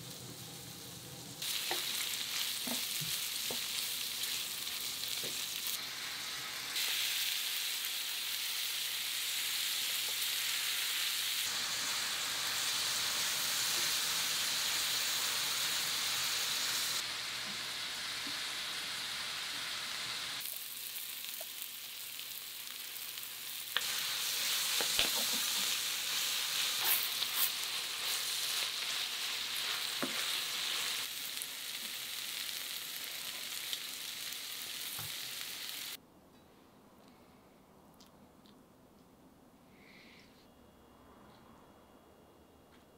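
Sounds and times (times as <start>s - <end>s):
noodles sizzling in frying pan: 0.0s - 36.0s.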